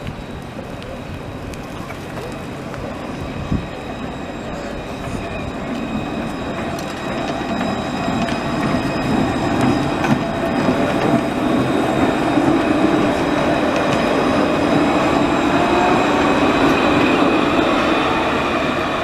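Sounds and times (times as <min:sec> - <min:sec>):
high-pitched whine: 0:00.0 - 0:19.0
tram wheels rumbling on rail: 0:00.0 - 0:19.0.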